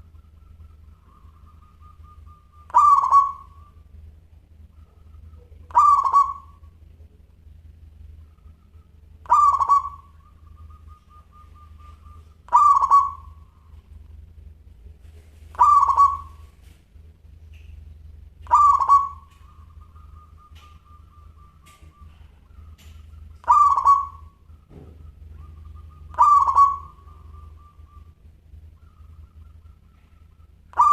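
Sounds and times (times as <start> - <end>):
dove cooing and trilling: 0.0 - 6.8, 8.2 - 14.0, 15.4 - 16.7, 18.4 - 30.9
steady low hum: 0.0 - 30.9.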